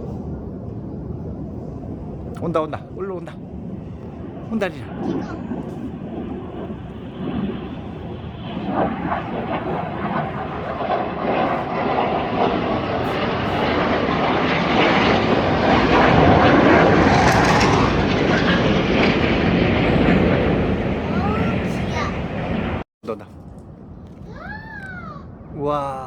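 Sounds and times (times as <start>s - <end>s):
aircraft passing overhead: 0.0s - 22.8s.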